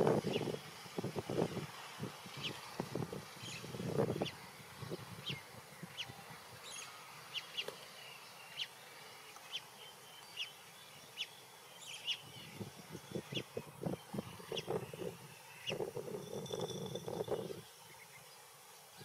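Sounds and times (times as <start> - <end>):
birds chirping: 3.4 - 19.0.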